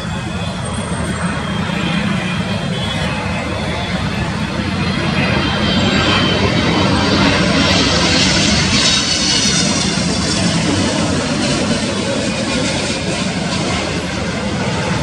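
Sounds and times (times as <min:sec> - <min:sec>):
jet engine noise with whine: 0:00.0 - 0:15.0.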